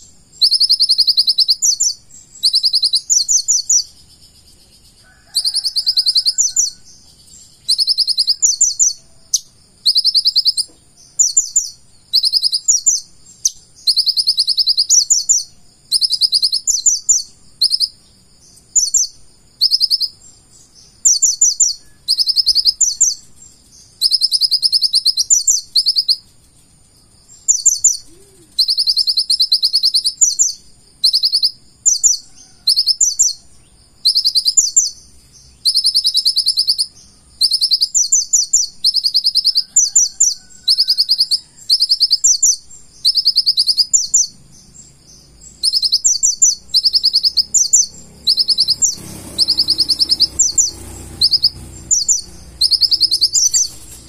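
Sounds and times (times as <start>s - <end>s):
bird singing high trilled notes: 0.0s - 26.3s, 27.2s - 33.4s, 34.0s - 54.0s.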